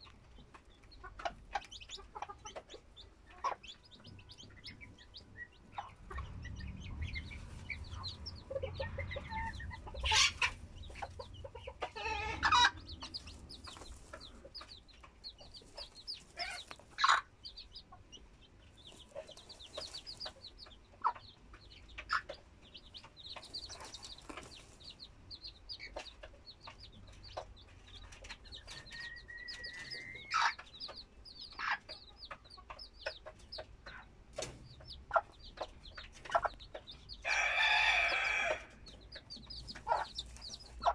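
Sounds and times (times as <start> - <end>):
chicken clucking and calling: 0.0 - 40.9
chicks peeping: 0.0 - 40.9.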